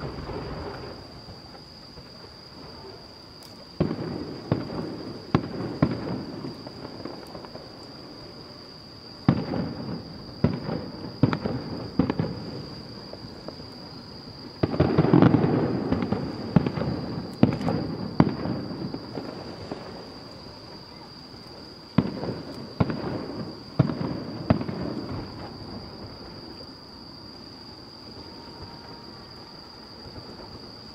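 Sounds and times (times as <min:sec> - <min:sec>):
distant fireworks bursting: 0:00.0 - 0:30.9.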